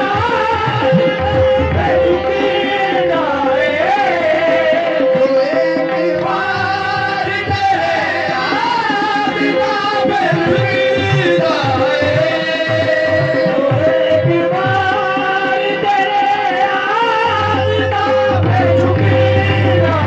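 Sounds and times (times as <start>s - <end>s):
harmonium drone: 0.0s - 20.0s.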